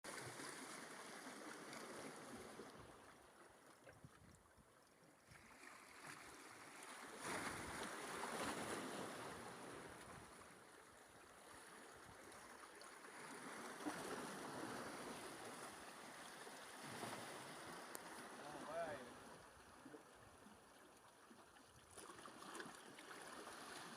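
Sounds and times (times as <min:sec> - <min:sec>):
wind: 0:00.0 - 0:23.9
sea water lapping: 0:00.1 - 0:23.9.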